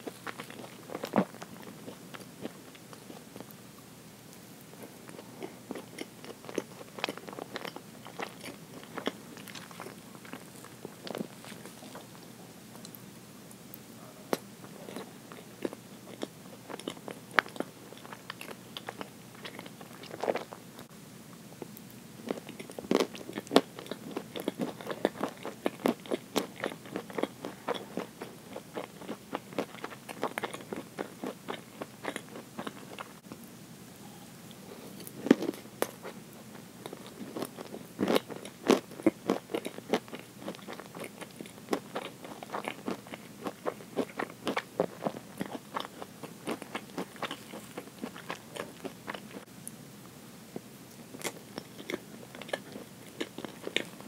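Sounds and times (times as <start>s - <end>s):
chewing with mouth clicks: 0.0s - 3.6s, 4.7s - 13.0s, 14.3s - 20.9s, 21.6s - 33.3s, 35.0s - 49.5s, 50.5s - 54.0s.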